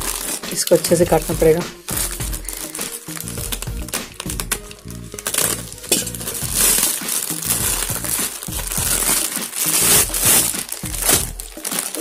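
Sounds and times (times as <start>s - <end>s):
background music: 0.0s - 12.0s
plastic mailer crinkling: 0.0s - 12.0s.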